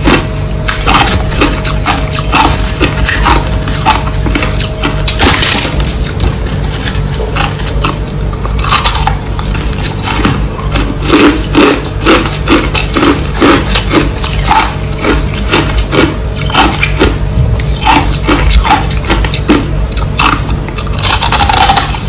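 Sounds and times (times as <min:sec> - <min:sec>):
person chewing crushed ice: 0:00.0 - 0:22.0.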